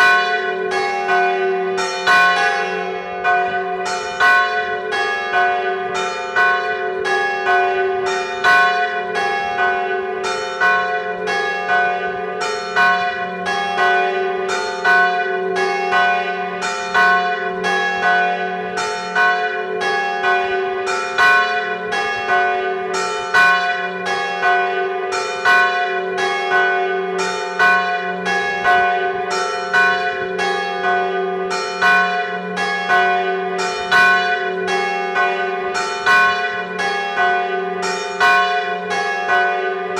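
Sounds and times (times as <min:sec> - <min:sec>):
large church bell tolling: 0:00.0 - 0:39.9
ringing hum of bells: 0:00.0 - 0:39.9
smaller bells striking: 0:00.0 - 0:39.9.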